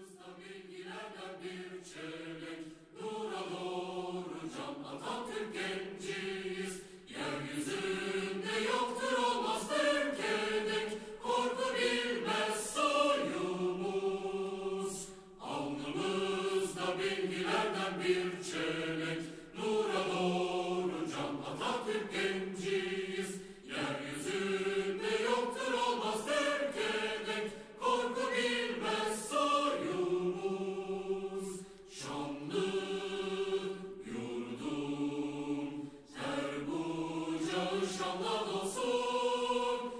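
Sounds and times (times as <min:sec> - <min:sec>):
choir singing a slow song: 0:00.0 - 0:39.9.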